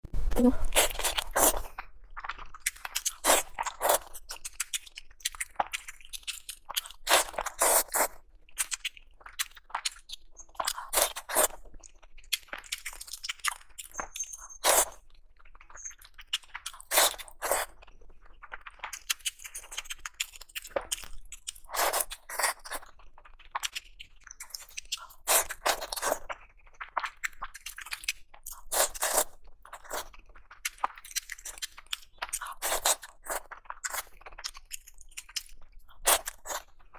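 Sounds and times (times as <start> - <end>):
crunchy bites and chewing: 0.2 - 36.9.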